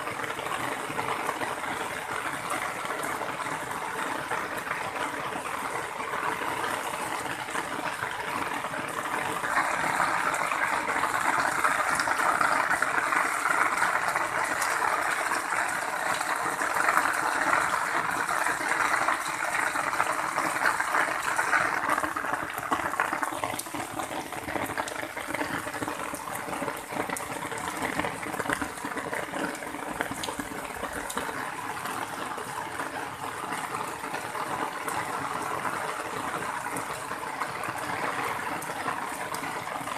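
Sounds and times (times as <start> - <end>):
heavy rain: 0.0 - 39.9
water gushing from downpipe: 0.0 - 39.9.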